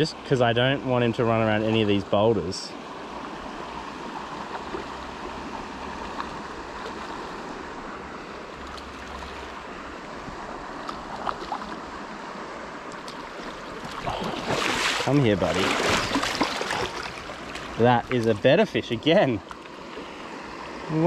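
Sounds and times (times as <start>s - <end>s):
river flowing over stones: 0.2s - 21.0s.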